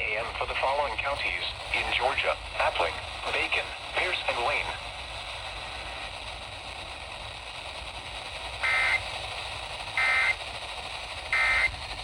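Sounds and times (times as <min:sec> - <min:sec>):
radio hiss: 0:00.0 - 0:12.0
buzzy data bursts: 0:00.2 - 0:12.0.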